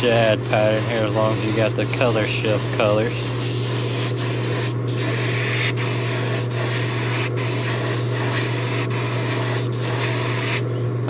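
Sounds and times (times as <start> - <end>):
airbrush spraying hiss: 0.0 - 10.6
low steady hum: 0.0 - 11.0.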